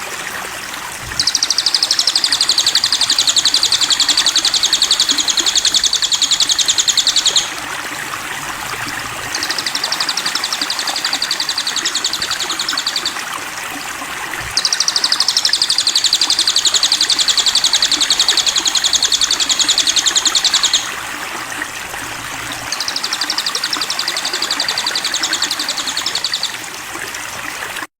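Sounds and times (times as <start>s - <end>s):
rushing water: 0.0s - 27.9s
bird calling in high trills: 1.0s - 13.4s, 14.4s - 21.2s, 22.1s - 26.7s.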